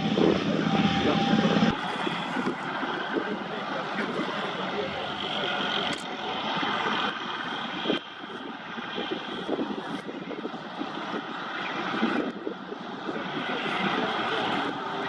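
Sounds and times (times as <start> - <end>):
tank engine running: 0.0 - 15.0.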